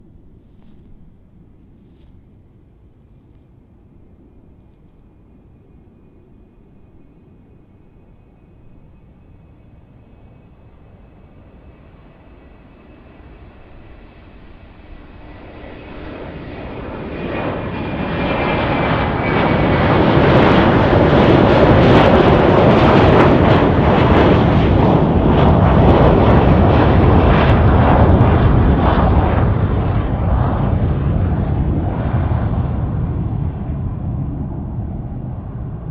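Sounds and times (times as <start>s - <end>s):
jet engines rushing: 0.0s - 35.9s.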